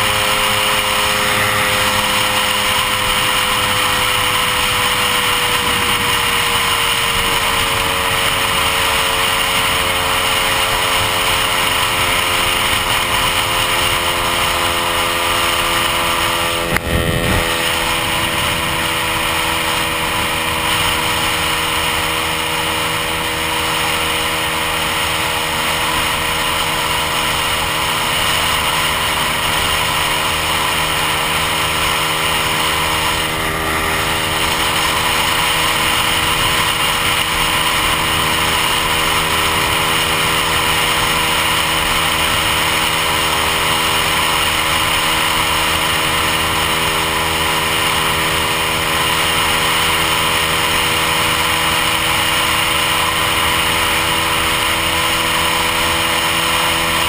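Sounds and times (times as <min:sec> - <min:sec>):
scooter engine cruising: 0:00.0 - 0:57.0
wind and road noise: 0:00.0 - 0:57.0.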